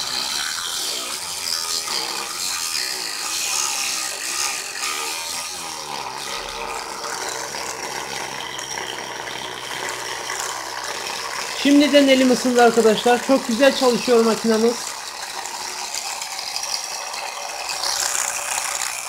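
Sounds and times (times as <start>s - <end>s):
hair dryer motor whirring: 0.0s - 19.0s.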